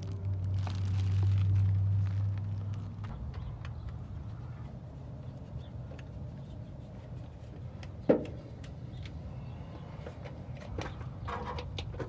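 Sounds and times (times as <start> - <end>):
low steady rumble: 0.0 - 10.5.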